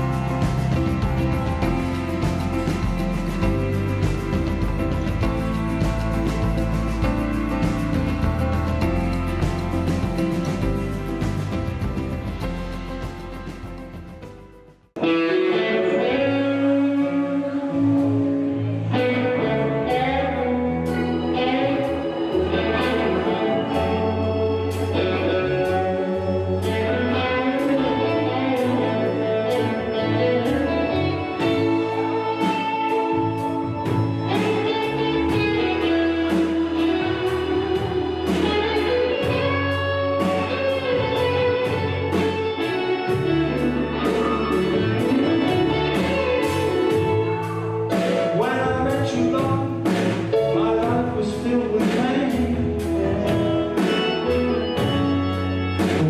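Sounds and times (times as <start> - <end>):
music with guitar: 0.0 - 56.0.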